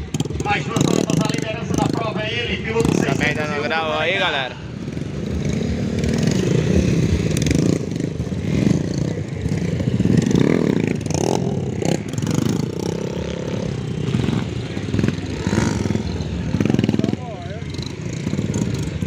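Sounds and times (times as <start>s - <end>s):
motorcycles revving hard: 0.0s - 19.0s.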